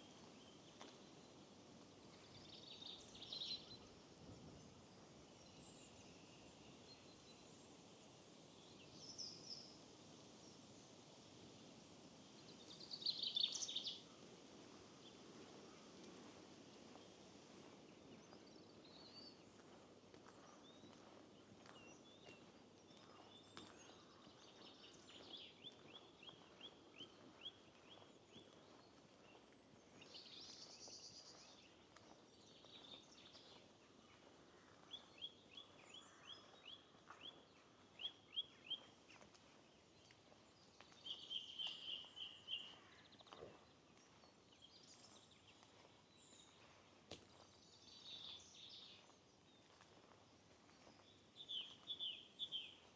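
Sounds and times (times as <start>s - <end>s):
faint songbirds singing: 0.0s - 52.9s.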